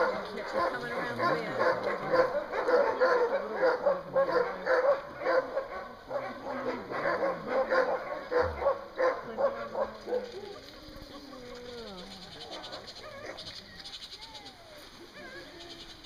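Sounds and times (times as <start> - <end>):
dogs barking and yipping: 0.0 - 15.6.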